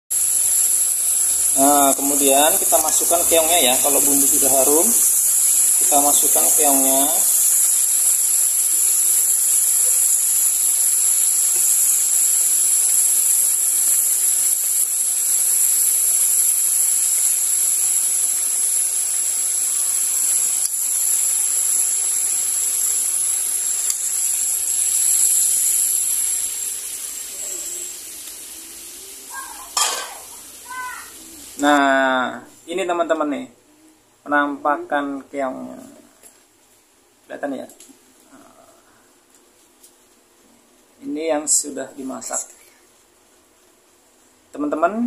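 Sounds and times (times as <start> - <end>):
food sizzling in hot oil: 0.0 - 33.4, 34.4 - 44.5.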